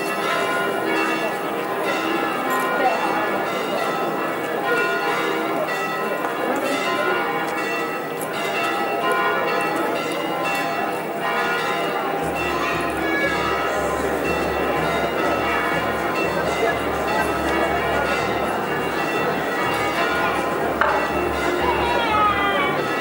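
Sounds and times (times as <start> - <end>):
church bells ringing: 0.0 - 23.0
crowd voices: 0.0 - 23.0.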